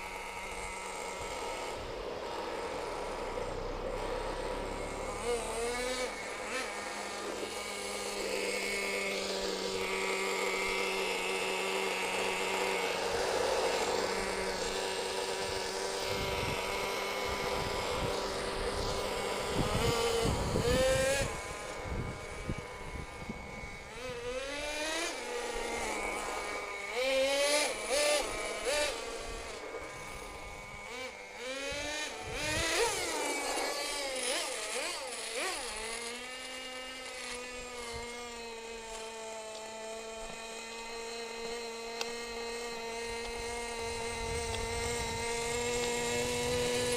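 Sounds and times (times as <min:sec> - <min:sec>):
nitro engine revving: 0:00.0 - 0:46.9.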